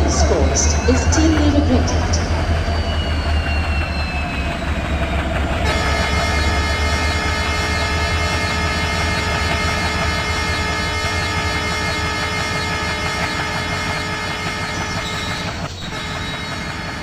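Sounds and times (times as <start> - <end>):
diesel train engine rumble: 0.0 - 17.0
sustained steady tones: 0.0 - 17.0.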